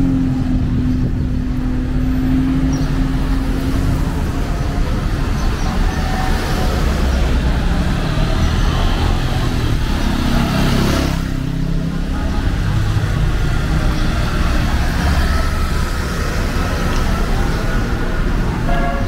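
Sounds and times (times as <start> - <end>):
cars driving past: 0.0 - 19.0
engine hum: 0.0 - 19.0.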